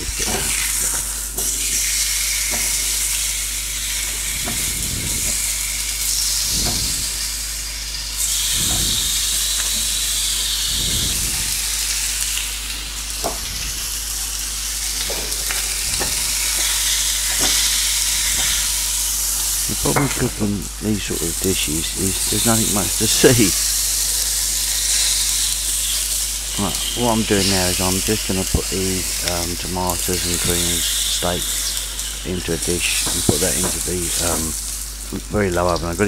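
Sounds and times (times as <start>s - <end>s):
onions sizzling in a pan: 0.0s - 36.0s.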